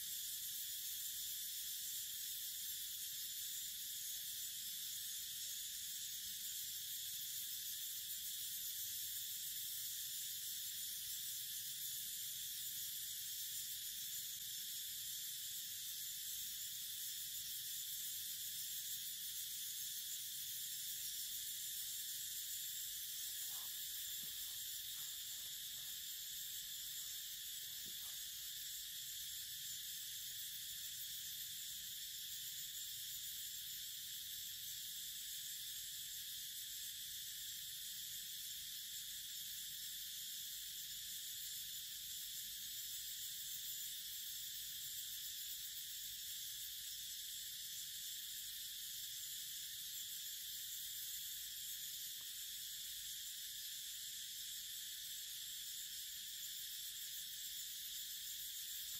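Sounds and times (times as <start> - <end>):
insect chorus drone: 0.0 - 58.9.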